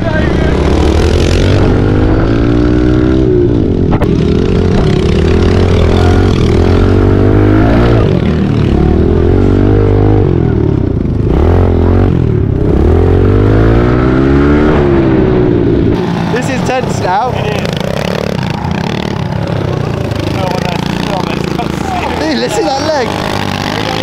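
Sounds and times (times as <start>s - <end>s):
pit bike engines revving: 0.0s - 24.0s.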